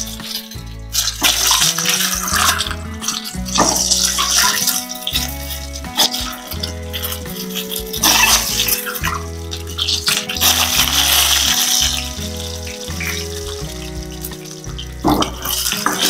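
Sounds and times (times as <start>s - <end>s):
background music with bass: 0.0s - 16.0s
eggs sizzling in hot oil: 0.0s - 16.0s.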